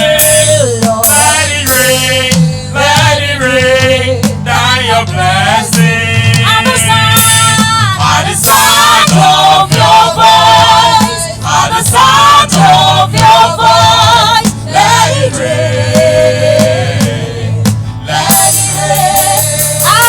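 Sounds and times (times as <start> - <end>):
instrumental accompaniment: 0.0 - 20.0
voices singing with vibrato: 0.0 - 20.0.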